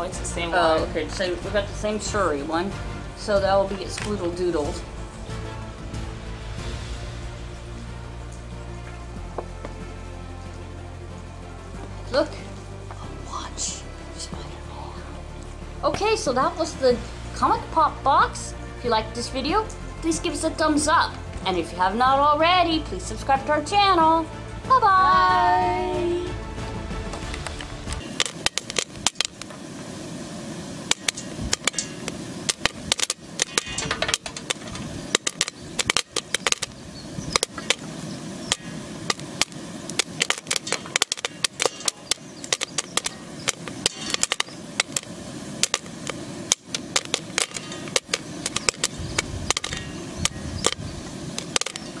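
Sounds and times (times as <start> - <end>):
popcorn popping in metal pan: 0.0 - 11.2, 15.8 - 23.3, 27.2 - 52.0
steady hiss: 0.0 - 52.0.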